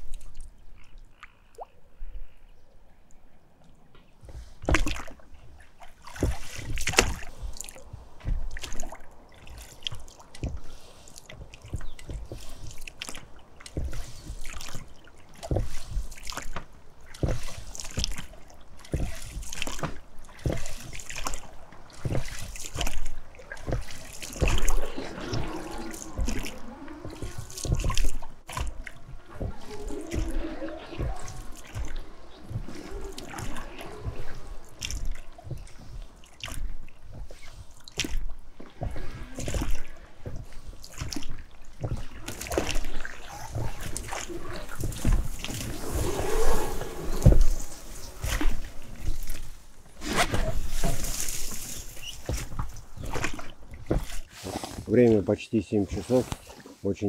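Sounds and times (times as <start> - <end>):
oars splashing in water: 0.0 - 2.4, 3.1 - 57.0.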